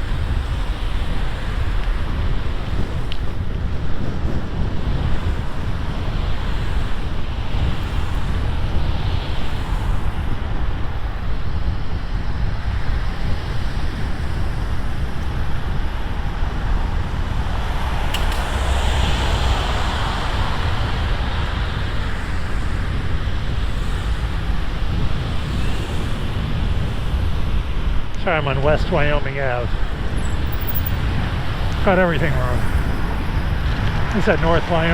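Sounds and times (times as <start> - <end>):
road noise: 0.0 - 34.9
wind rumbling on microphone: 0.0 - 34.9.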